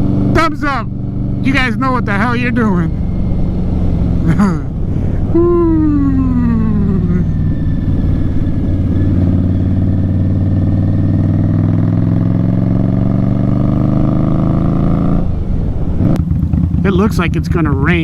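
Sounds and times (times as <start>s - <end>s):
motorcycle engine riding: 0.0s - 18.0s.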